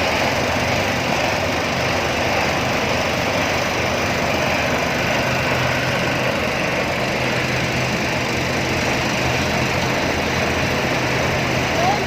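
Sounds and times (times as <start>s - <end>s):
production line machinery drone: 0.0s - 12.0s.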